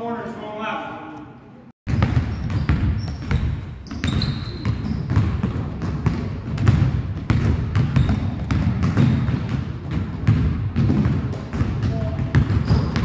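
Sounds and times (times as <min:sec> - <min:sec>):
basketballs bouncing on wood floor: 0:01.9 - 0:13.0.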